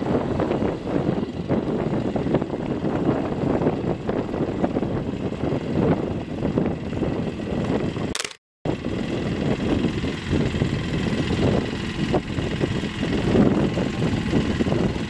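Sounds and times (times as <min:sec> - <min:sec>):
vehicle engine running: 0:00.0 - 0:08.1, 0:08.7 - 0:15.0.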